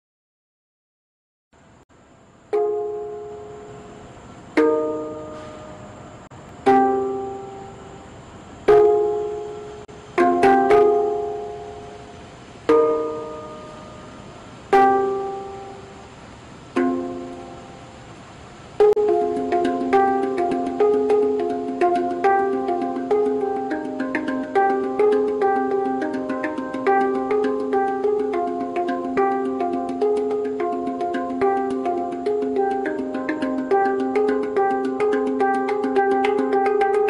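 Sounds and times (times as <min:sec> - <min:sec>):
slow ringing chords: 0:02.5 - 0:37.0.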